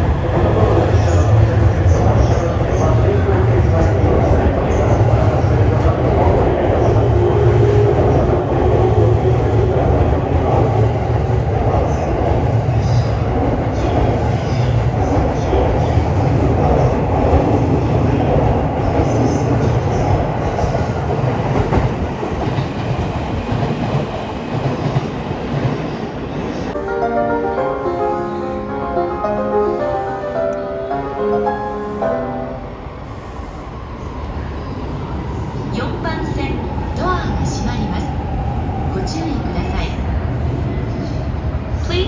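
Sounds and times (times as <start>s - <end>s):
passenger train rumbling: 0.0s - 42.0s.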